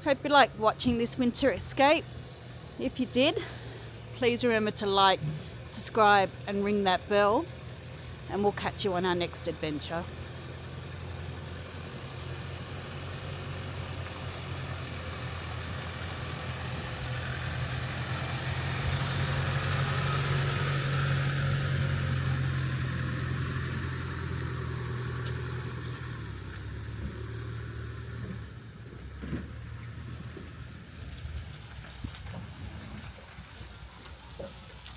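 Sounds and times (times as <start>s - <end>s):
road noise: 0.0s - 34.9s
vehicle engine hum: 0.0s - 34.9s.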